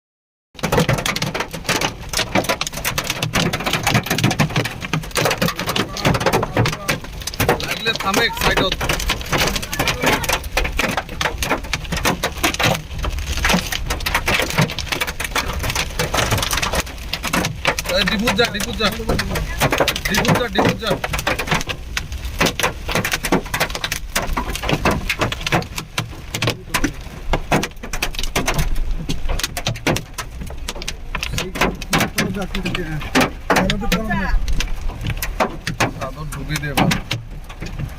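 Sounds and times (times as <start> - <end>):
hail clattering on hard surface: 0.6 - 37.9.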